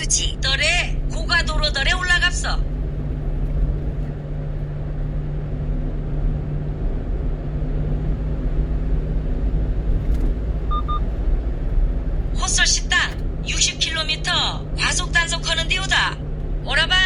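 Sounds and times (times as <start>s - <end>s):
low hum: 0.0s - 17.0s
truck engine and road noise: 0.0s - 17.0s.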